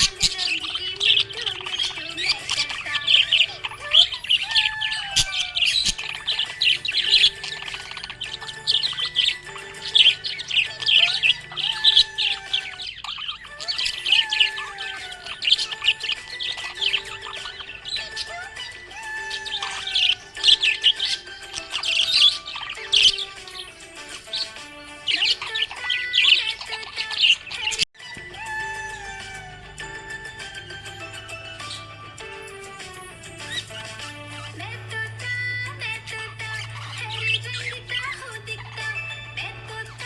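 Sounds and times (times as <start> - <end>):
budgerigars chirping: 0.0 - 40.0.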